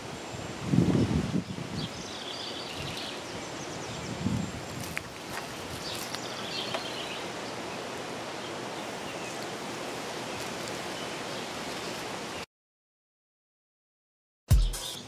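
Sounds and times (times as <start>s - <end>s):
outdoor background hiss: 0.0s - 12.5s.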